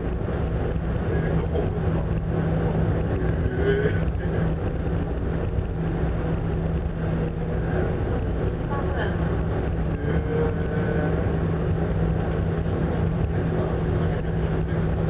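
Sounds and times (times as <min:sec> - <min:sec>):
constant hum: 0:00.0 - 0:15.0
ferry engines droning: 0:00.0 - 0:15.0.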